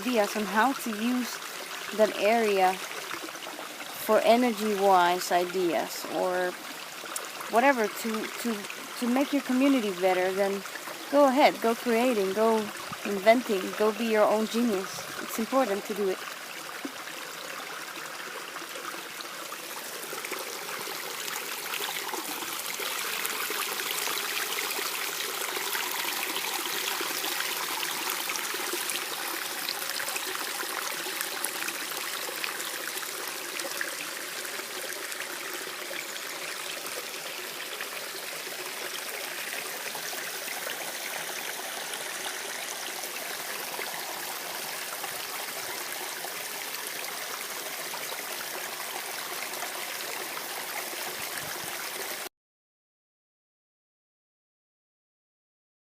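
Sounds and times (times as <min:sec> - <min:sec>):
stream water trickling: 0:00.0 - 0:52.3.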